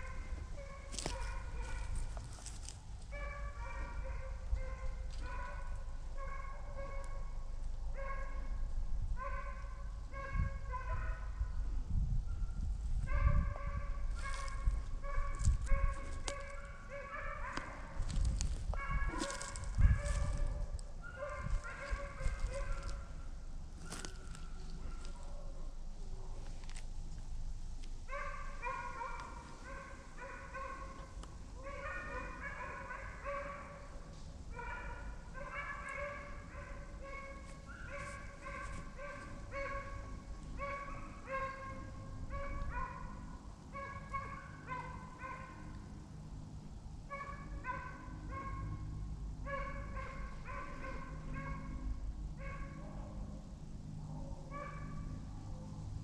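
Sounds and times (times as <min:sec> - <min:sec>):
hounds barking and baying: 0:00.0 - 0:02.5, 0:03.1 - 0:07.3, 0:07.9 - 0:08.5, 0:09.2 - 0:11.5, 0:13.0 - 0:18.1, 0:18.7 - 0:26.5, 0:28.1 - 0:46.0, 0:47.1 - 0:53.4, 0:54.1 - 0:56.0.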